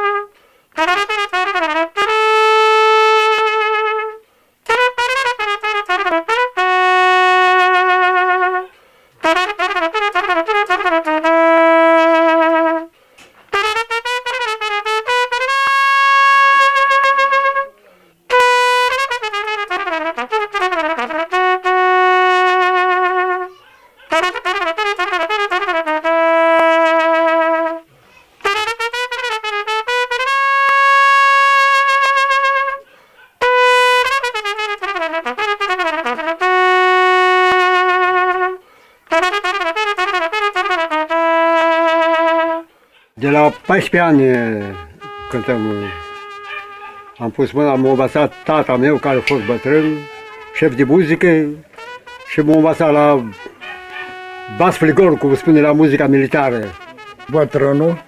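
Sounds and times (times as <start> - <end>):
solo trumpet melody: 0.0 - 58.0.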